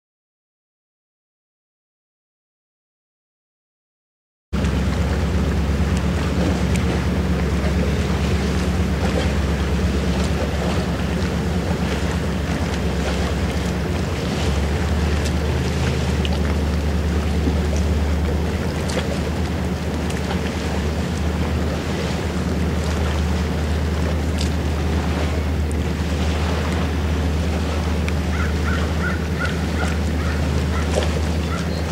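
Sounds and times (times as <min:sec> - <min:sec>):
boat engine drone: 0:04.6 - 0:31.9
small waves splashing: 0:04.6 - 0:31.9.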